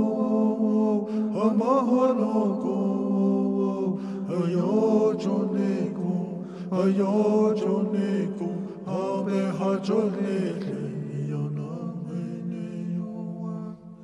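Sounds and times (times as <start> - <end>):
voices chanting slow phrases: 0.0 - 14.0.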